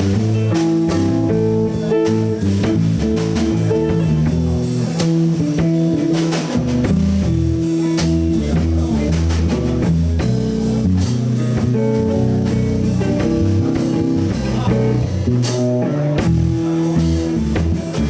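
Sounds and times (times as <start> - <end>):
bass guitar: 0.0 - 18.0
drum kit: 0.0 - 18.0
electric guitar lead lines: 0.0 - 18.0.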